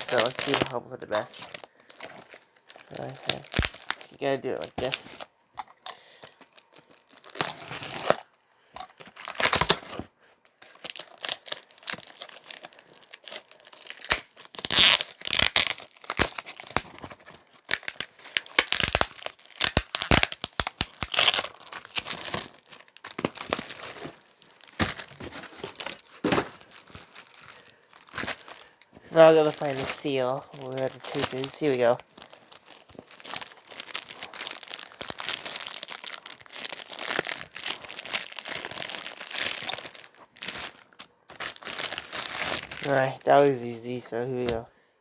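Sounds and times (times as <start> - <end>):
cardboard and packing crinkling: 0.0 - 5.3, 6.2 - 44.7.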